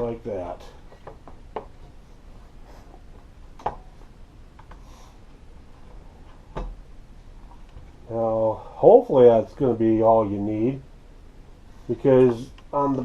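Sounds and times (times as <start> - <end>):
faint room background: 0.0 - 13.0.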